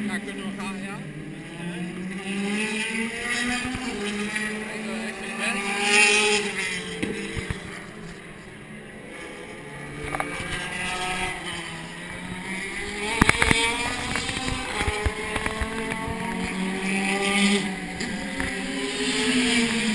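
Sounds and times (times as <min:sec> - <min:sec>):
race car engines: 0:00.0 - 0:19.9.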